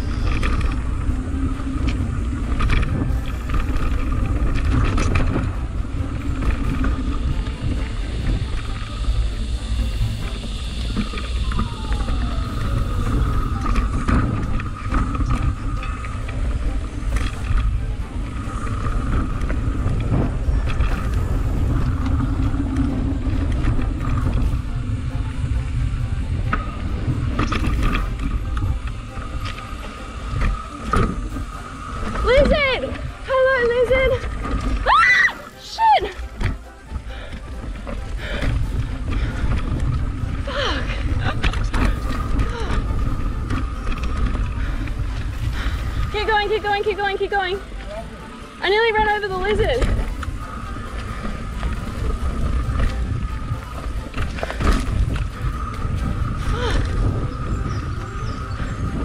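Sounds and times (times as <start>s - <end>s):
bike rattling over bumps: 0.0s - 59.0s
tyres rumbling on dirt: 0.0s - 59.0s
wind on microphone: 0.0s - 59.0s.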